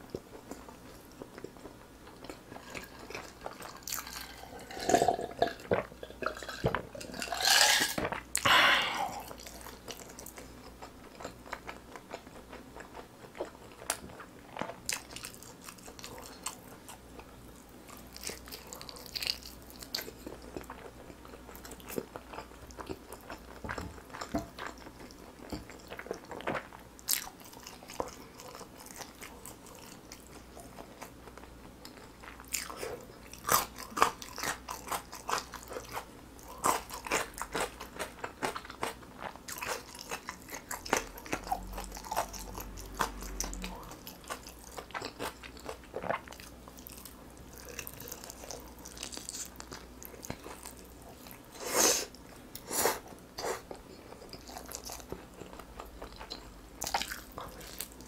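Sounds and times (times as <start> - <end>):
wet chewing: 0.1 - 58.0.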